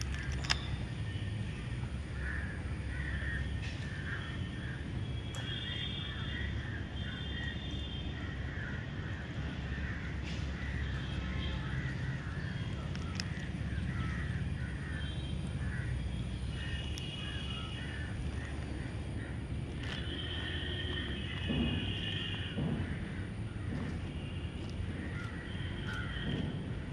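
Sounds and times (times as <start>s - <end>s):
birds calling harshly: 0.0s - 26.9s
higher bird chatter: 1.6s - 26.9s.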